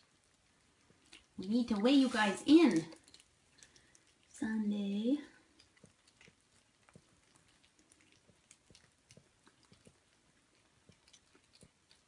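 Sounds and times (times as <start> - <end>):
kittens chewing and lapping food: 0.0 - 12.0.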